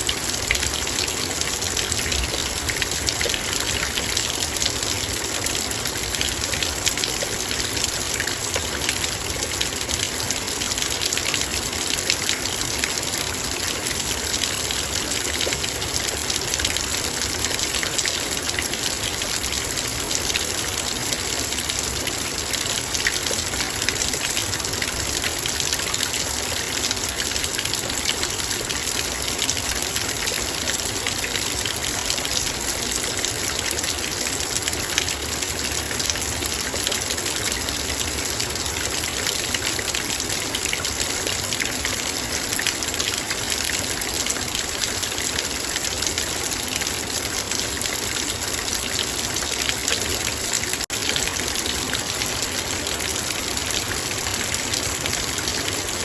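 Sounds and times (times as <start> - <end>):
rain on a metal bowl: 0.0 - 56.0.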